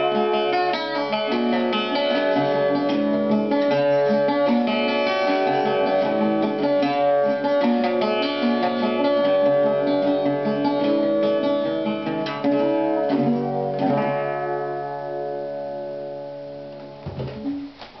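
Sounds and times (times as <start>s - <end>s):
cittern picked notes and chords: 0.0s - 17.8s.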